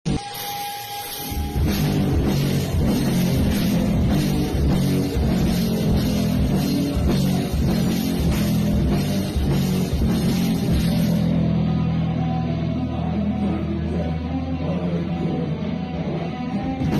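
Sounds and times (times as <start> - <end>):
metal band playing loud: 0.1 - 16.9.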